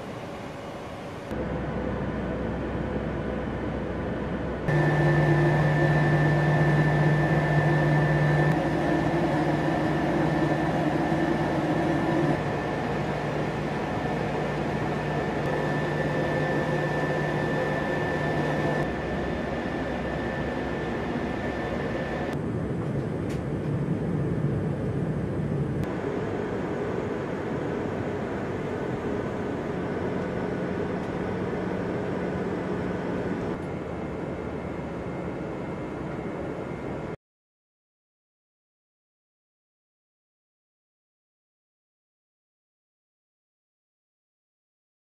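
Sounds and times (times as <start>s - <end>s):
aircraft engine and air rush: 0.0s - 37.2s
steady cabin hums: 0.0s - 37.2s.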